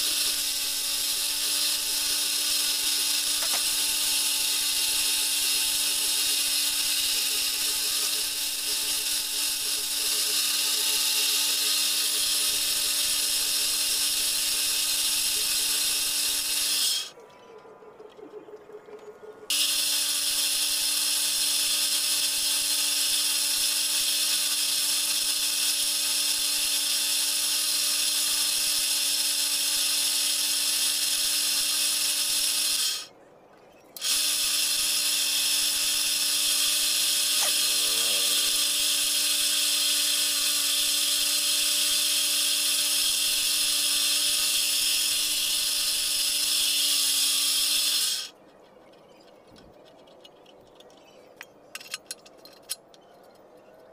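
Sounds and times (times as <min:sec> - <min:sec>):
wood lathe humming and hissing: 0:00.0 - 0:17.1, 0:19.5 - 0:33.1, 0:34.0 - 0:48.3.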